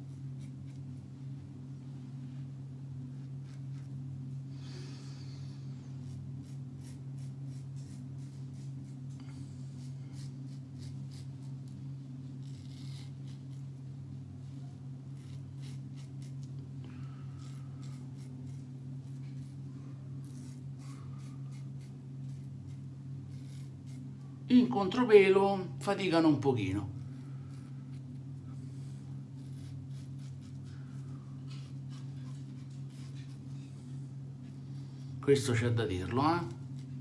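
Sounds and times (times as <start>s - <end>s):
razor scraping stubble: 0.0s - 1.0s, 3.1s - 4.0s, 5.8s - 13.9s, 15.0s - 25.0s, 27.0s - 37.0s
low hum: 0.0s - 37.0s.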